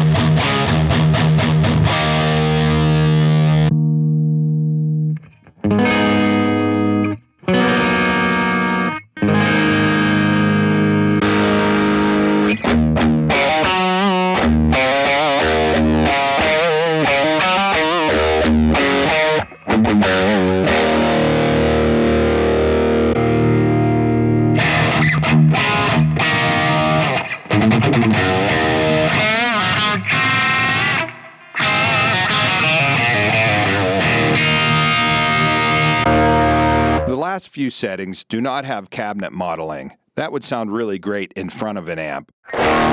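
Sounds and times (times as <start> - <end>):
distorted electric guitar: 0.0 - 37.3, 42.4 - 42.9.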